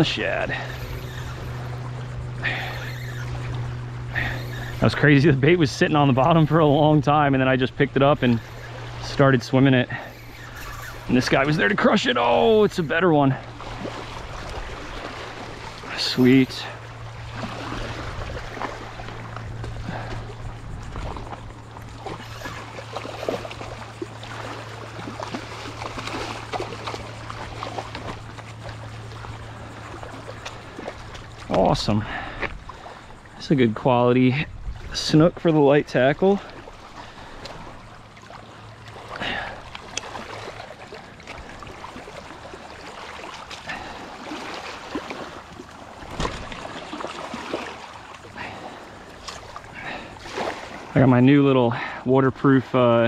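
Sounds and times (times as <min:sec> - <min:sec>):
fish splashing in shallow water: 0:00.0 - 0:52.0
small waves washing on shore: 0:00.0 - 0:53.0
steady low hum: 0:00.0 - 0:53.0.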